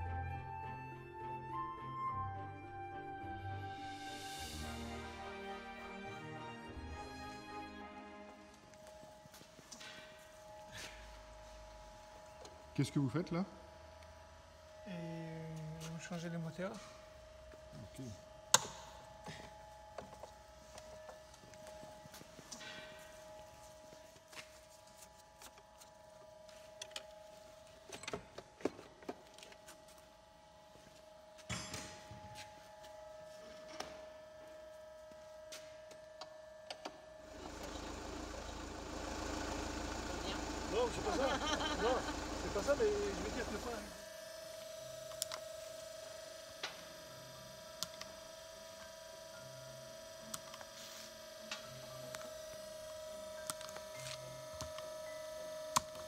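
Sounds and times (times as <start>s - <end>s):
faint steady whine: 3.6s - 56.0s
steady hum: 3.8s - 56.0s.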